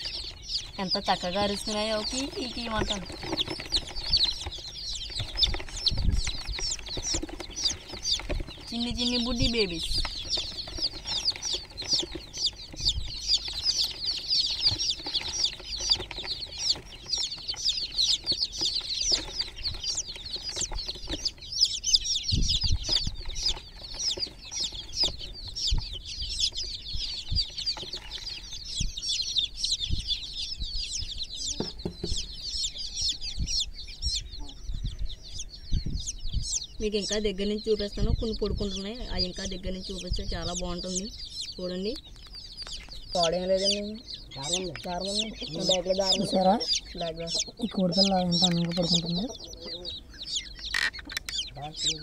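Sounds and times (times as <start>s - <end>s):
baby chicks peeping: 0.0s - 52.0s.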